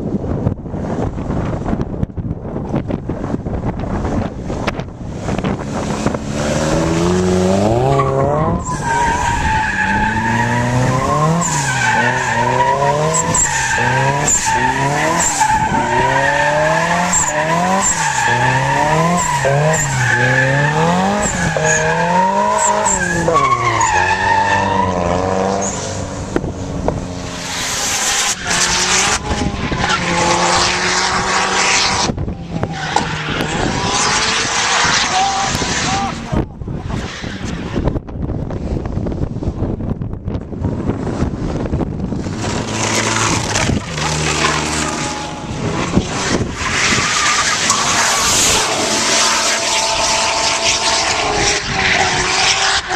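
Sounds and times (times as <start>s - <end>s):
car engine revving: 3.9s - 37.6s, 41.1s - 52.9s
tires squealing: 4.5s - 38.0s, 41.2s - 52.9s.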